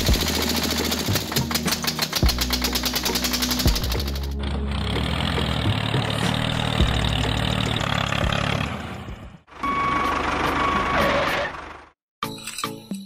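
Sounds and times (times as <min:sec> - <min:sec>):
small tractor engine droning: 0:00.0 - 0:12.0.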